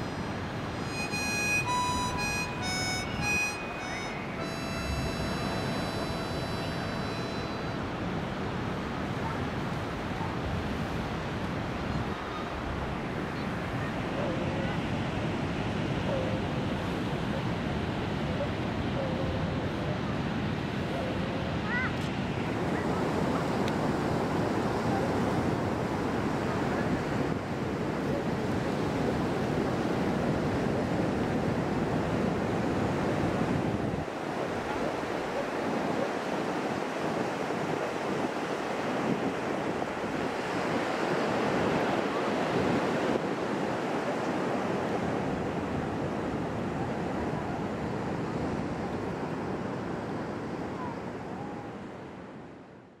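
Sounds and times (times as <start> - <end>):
ocean surf washing on shore: 0.0 - 52.8.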